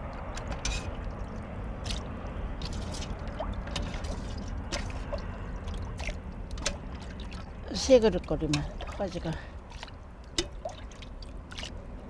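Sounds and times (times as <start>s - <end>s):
liquid splashing and pouring: 0.0s - 11.8s
steady low rumble: 0.0s - 12.0s.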